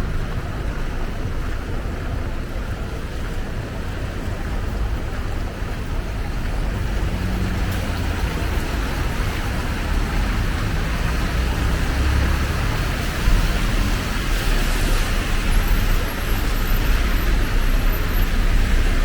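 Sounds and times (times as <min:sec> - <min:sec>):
steady rain: 0:00.0 - 0:19.0
traffic on wet streets: 0:00.0 - 0:19.0.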